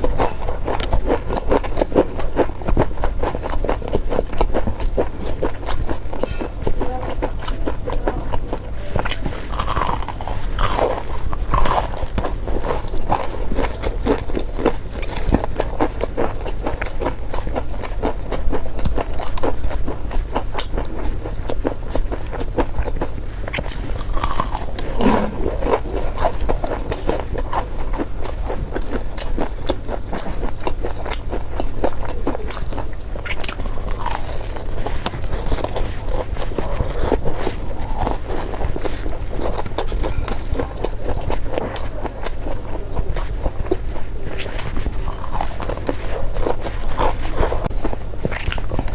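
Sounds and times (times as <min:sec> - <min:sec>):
chewing crispy fried chicken: 0:00.0 - 0:48.9
low steady hum: 0:00.0 - 0:48.9
wet mouth sounds: 0:00.0 - 0:48.9.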